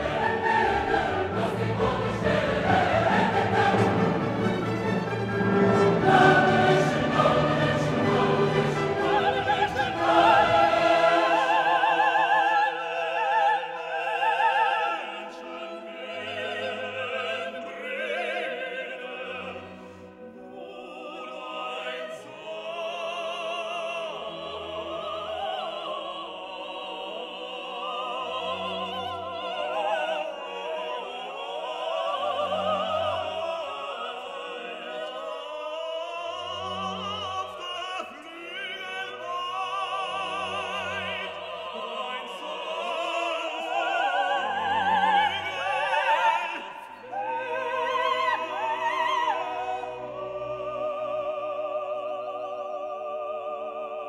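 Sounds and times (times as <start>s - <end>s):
operatic singing with vibrato: 0.0s - 54.0s
orchestra: 0.0s - 54.0s.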